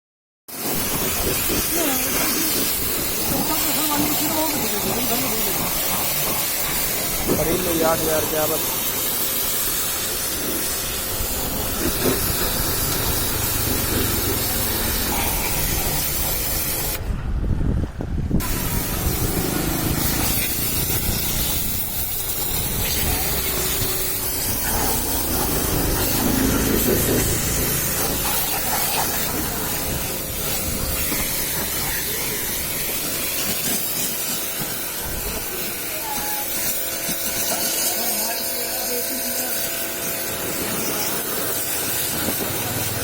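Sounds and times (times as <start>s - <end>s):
water jet spraying on vehicle: 0.5s - 17.2s, 18.3s - 43.0s.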